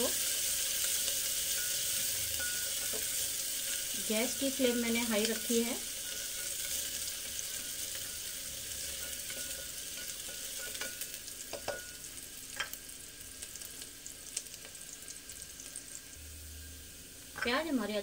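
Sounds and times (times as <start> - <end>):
onion sizzling in oil: 0.0 - 18.0.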